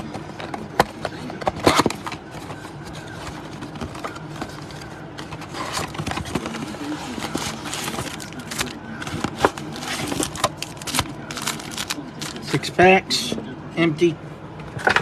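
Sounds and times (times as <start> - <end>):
packaging crinkling and scraping: 0.0 - 12.6.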